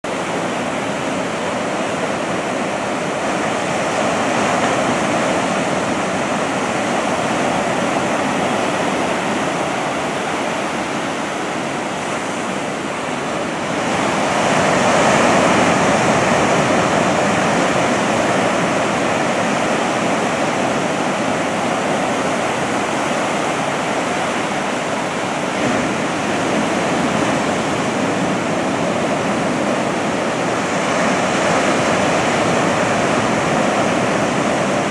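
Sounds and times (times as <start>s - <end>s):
ocean surf breaking: 0.1s - 34.9s.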